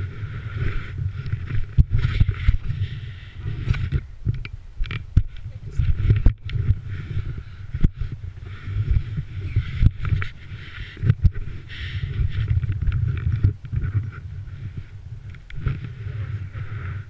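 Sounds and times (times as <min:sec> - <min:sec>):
camera handling rumble: 0:00.0 - 0:17.0.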